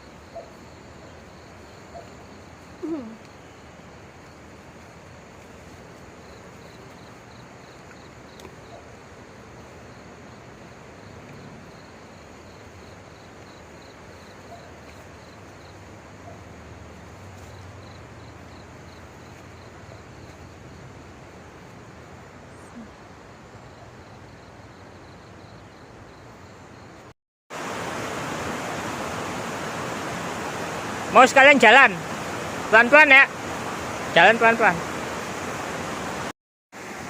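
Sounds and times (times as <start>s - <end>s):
insect chirping: 0.0s - 36.2s
steady outdoor hiss: 0.0s - 37.0s.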